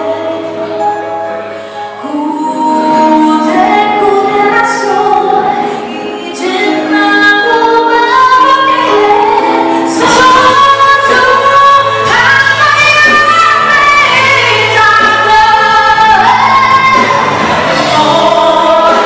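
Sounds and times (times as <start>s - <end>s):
woman singing with live band: 1.6s - 19.0s.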